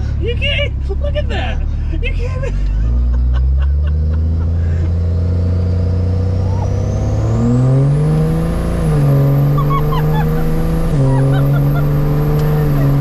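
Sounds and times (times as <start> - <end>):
diesel truck engine accelerating: 0.0 - 13.0.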